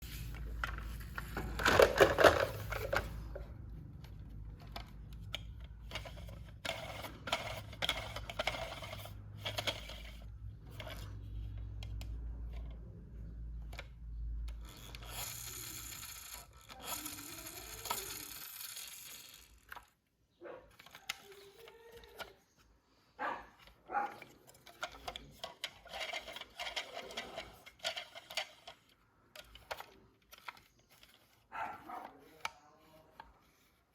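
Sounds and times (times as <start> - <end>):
toy unboxing handling sounds: 0.0 - 20.0, 20.7 - 22.8, 23.5 - 33.9.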